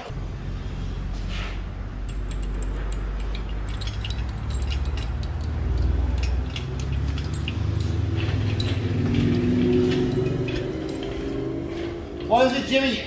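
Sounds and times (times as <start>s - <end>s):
steel chain clinking: 1.9s - 13.0s.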